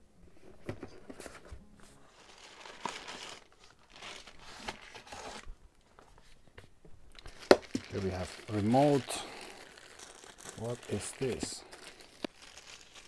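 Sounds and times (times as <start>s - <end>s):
cardboard and plastic rustling: 0.4s - 13.0s.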